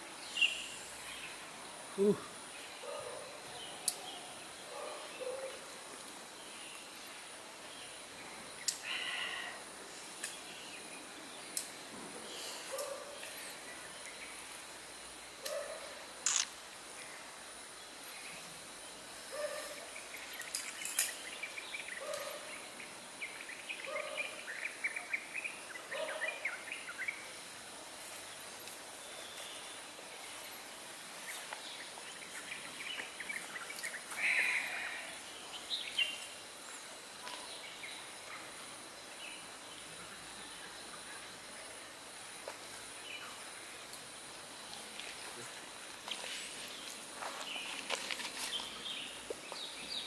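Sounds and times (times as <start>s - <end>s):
birds chirping and twittering: 0.2s - 16.0s, 17.0s - 27.4s, 28.0s - 42.0s, 44.6s - 50.0s.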